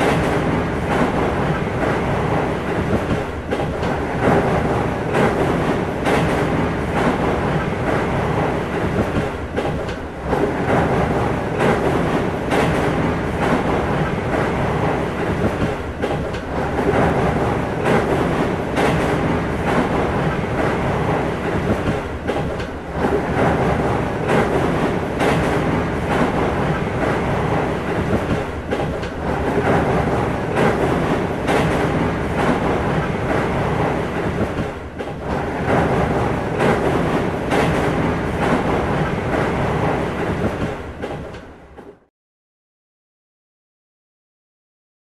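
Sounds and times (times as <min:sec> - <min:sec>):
train rumbling past: 0:00.0 - 0:42.1
wheels clacking over rail joints: 0:00.0 - 0:42.1.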